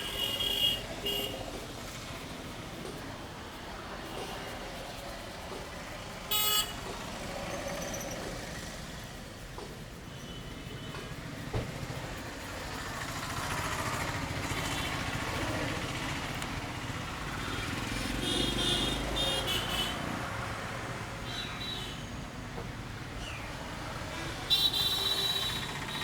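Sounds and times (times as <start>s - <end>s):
vehicle engine passing: 0.0s - 21.2s
street traffic noise: 0.0s - 26.0s.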